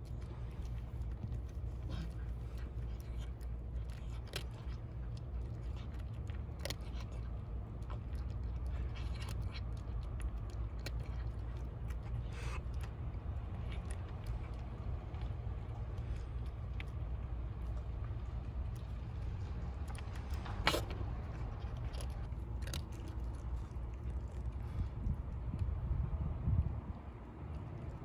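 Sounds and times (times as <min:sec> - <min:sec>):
cat crunching dry kibble: 0:00.0 - 0:26.2
steady low rumble: 0:00.0 - 0:28.0.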